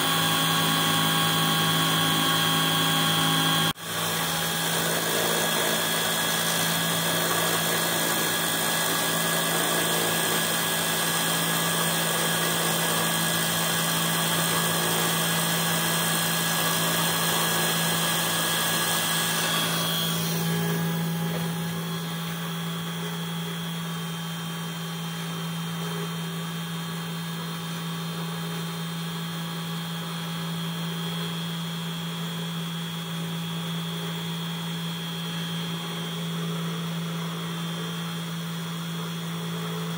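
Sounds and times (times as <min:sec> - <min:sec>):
engraver spindle whine: 0:00.0 - 0:39.9.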